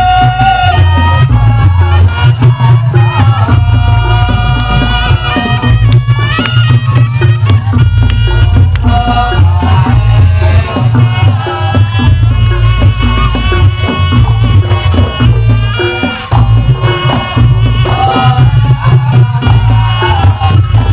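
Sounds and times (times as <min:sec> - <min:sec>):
drum strokes: 0:00.0 - 0:20.9
heavy steady bass: 0:00.0 - 0:20.9
reed trumpet melody: 0:00.0 - 0:20.9.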